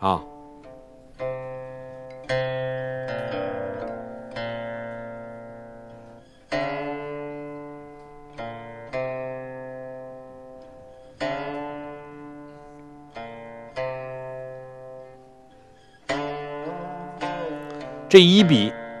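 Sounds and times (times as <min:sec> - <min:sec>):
plucked string instrument notes: 0:00.0 - 0:19.0.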